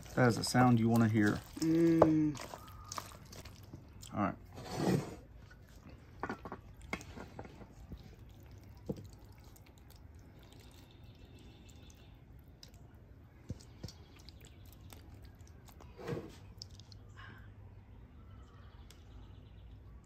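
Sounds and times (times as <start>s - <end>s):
faint wet squishing: 0.0s - 4.6s, 5.2s - 20.0s.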